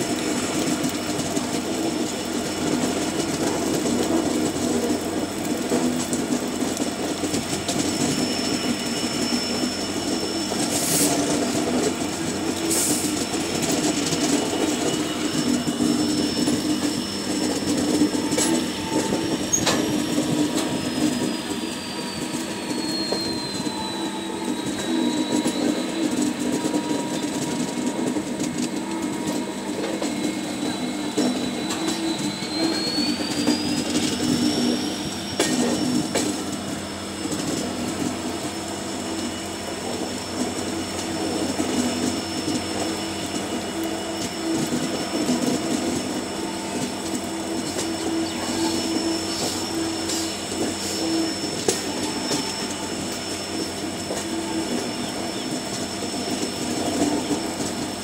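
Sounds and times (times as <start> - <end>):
train wheels rumbling on track: 0.0 - 58.0
train wheels squealing: 0.0 - 58.0.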